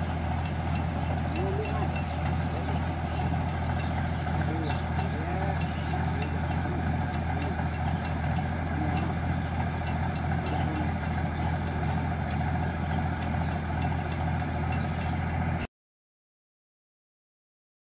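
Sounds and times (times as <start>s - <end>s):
combine harvester engine hum: 0.0s - 15.7s.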